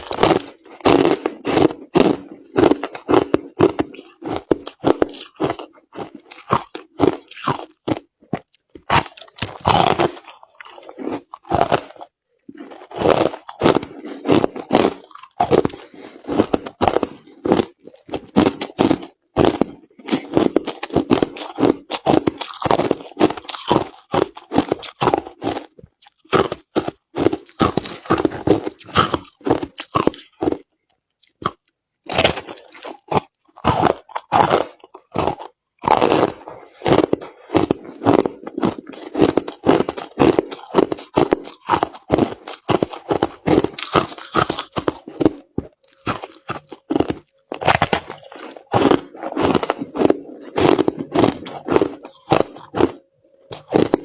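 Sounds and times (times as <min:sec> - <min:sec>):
crushed ice being chewed: 0:00.0 - 0:54.0.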